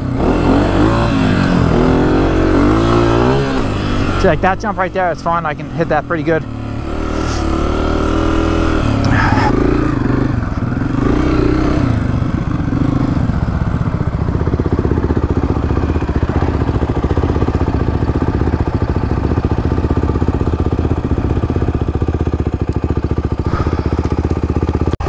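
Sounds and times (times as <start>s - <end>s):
dirt bike engine revving and idling: 0.0s - 25.0s.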